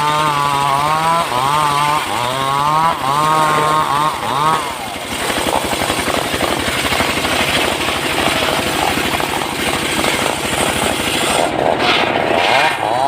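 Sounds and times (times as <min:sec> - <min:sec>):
engine-driven saw cutting wood: 0:00.0 - 0:13.0.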